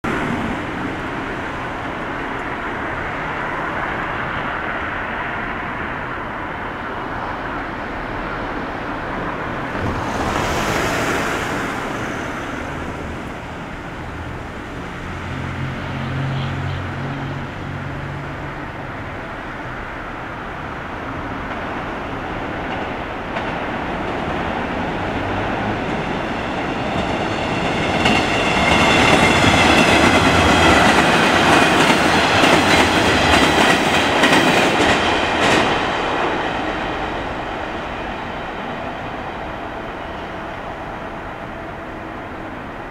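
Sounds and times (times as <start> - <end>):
train running noise: 0.0 - 42.9.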